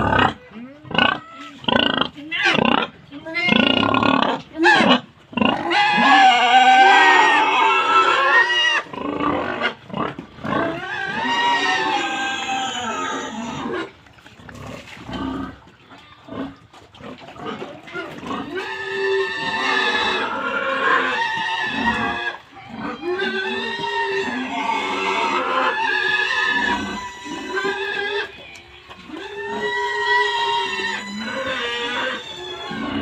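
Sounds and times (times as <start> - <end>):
pig squealing: 0.0 - 14.0, 16.3 - 33.0
pig grunts and snuffles: 0.0 - 28.3.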